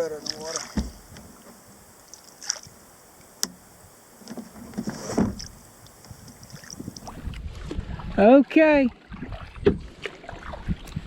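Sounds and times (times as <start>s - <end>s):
paddle strokes splashing water: 0.0s - 11.0s.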